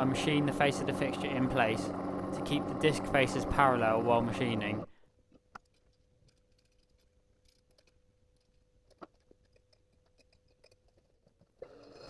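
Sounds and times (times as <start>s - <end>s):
faint steady hum: 0.0s - 10.7s.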